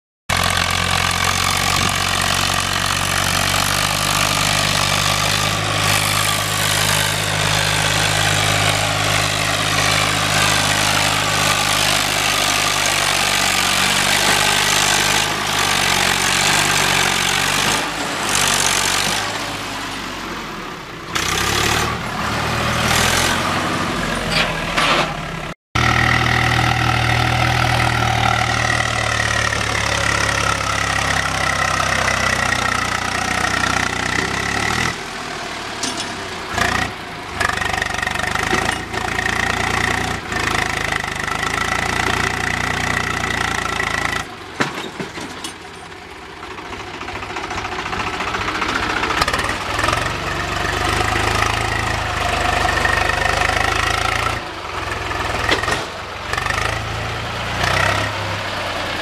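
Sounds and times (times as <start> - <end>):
tractor diesel engines under load: 0.3 - 59.0
tractor engine running steadily: 0.3 - 59.0.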